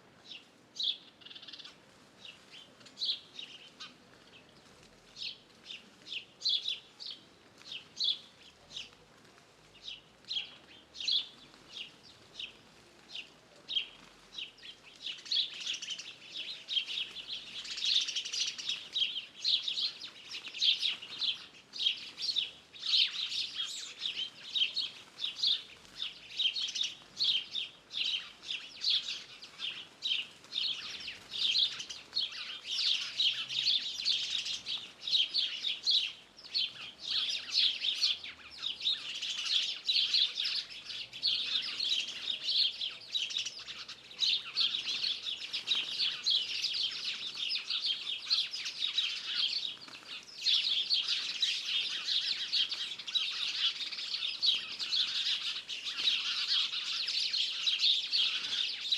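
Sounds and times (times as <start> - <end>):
birds singing and chirping: 5.1 - 9.0, 9.8 - 58.9.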